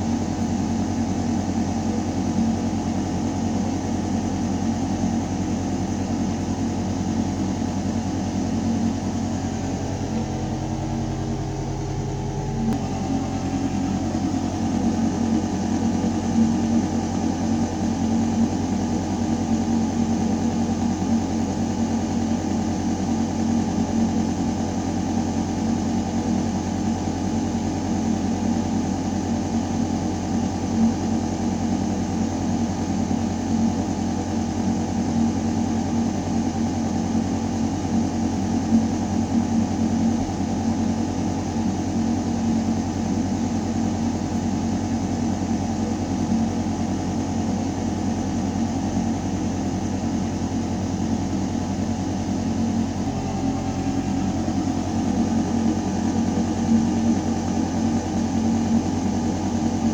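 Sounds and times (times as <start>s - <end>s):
ventilation mechanical hum: 0.0s - 59.9s.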